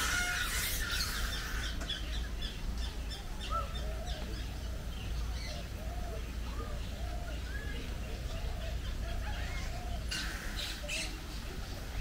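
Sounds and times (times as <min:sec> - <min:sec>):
loud noisy bird call: 0:00.0 - 0:12.0
lower arching bird calls: 0:00.0 - 0:12.0.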